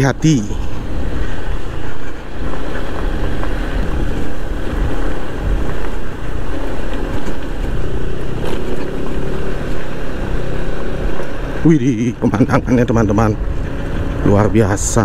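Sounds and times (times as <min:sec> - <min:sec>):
road and wind rumble: 0:00.0 - 0:15.0
scooter engine running: 0:00.0 - 0:15.0.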